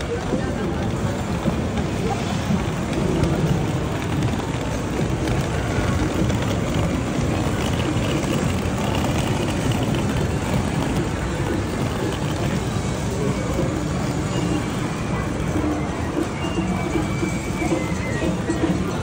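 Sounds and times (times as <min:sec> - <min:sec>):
low street rumble: 0:00.0 - 0:19.0.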